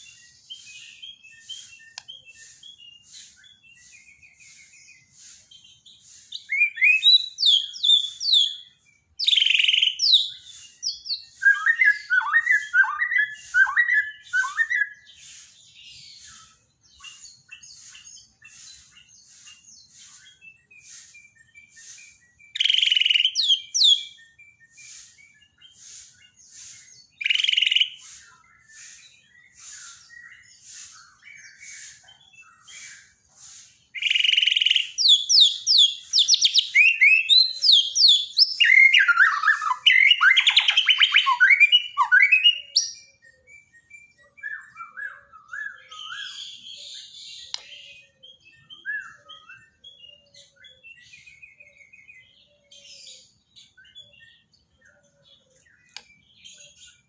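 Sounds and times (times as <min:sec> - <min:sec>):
bird whistling song phrases: 0:00.0 - 0:57.0.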